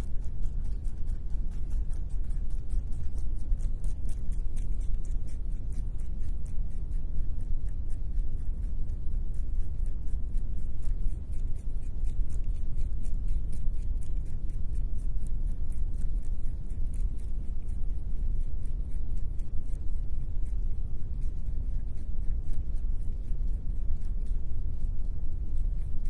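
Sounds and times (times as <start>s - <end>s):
low rumble: 0.0s - 26.0s
rabbit chewing: 0.0s - 26.0s.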